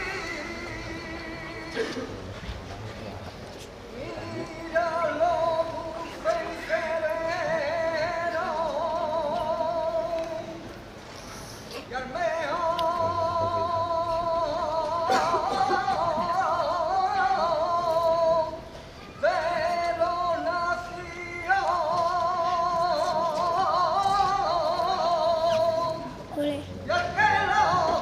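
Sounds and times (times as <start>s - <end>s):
man singing unaccompanied: 0.0s - 2.0s, 3.9s - 10.6s, 11.9s - 28.0s.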